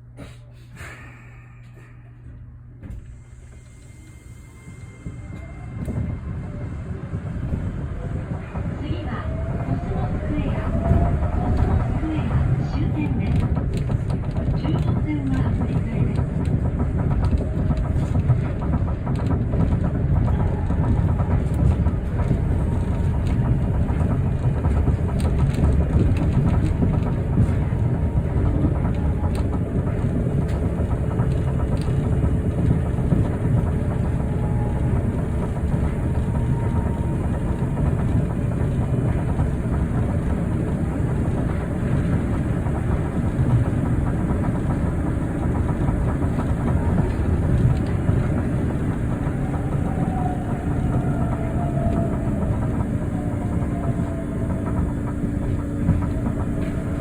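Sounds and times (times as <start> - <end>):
low rumble of train tyres: 0.0 - 57.0.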